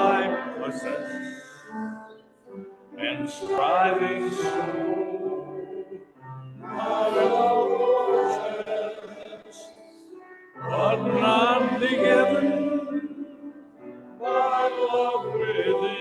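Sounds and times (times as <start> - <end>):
congregation singing a hymn: 0.0 - 2.0, 2.9 - 16.0.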